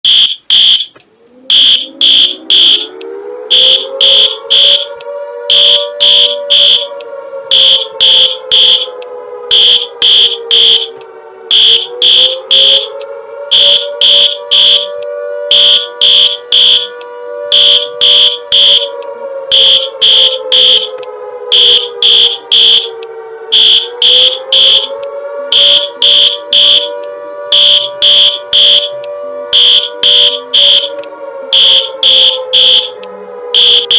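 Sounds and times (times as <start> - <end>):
air-raid siren rising and falling: 0.1 - 33.9
high-pitched alarm beeps: 0.1 - 33.9.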